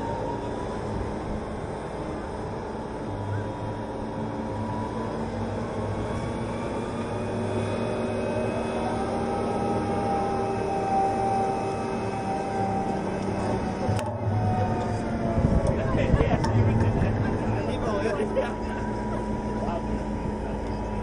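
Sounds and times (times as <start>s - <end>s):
crane engine and winch running: 0.0s - 21.0s
faint rising whine: 0.0s - 21.0s.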